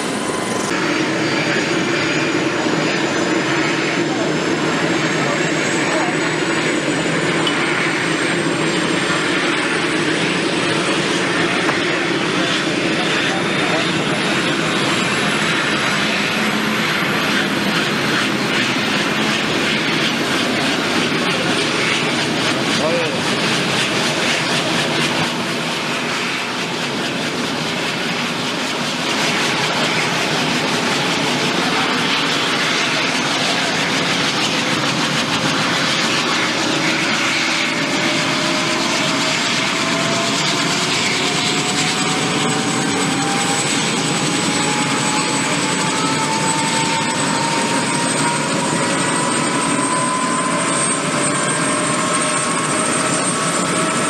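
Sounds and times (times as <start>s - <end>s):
helicopter engines and rotors: 0.0s - 54.0s
turbine whine rising in pitch: 0.0s - 54.0s.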